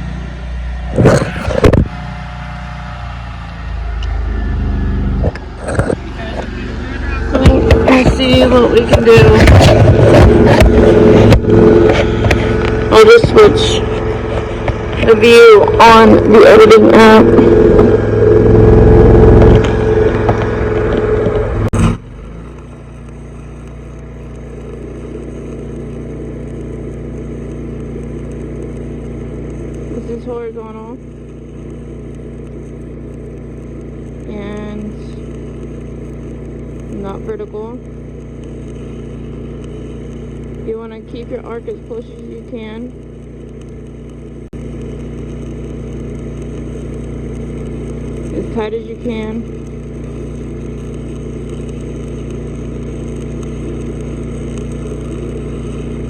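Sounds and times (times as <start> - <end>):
motor humming: 0.0 - 56.0
welding arc crackling: 0.0 - 56.0.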